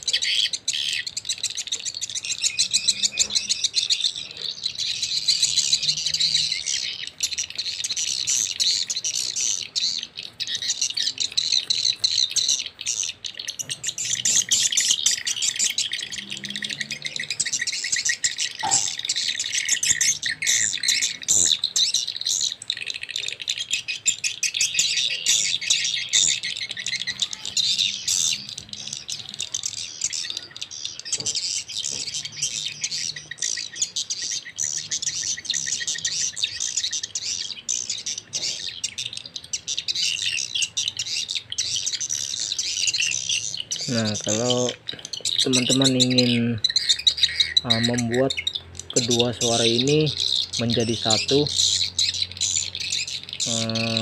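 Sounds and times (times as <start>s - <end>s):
recorded bird chirping and trilling: 0.0s - 54.0s.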